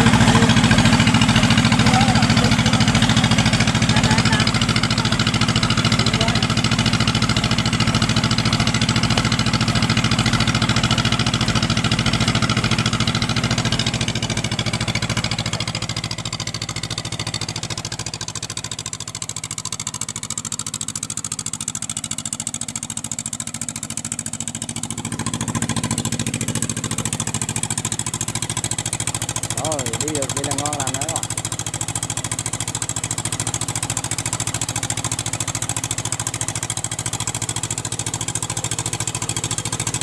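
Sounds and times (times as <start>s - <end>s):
diesel engine running steadily: 0.0s - 40.0s.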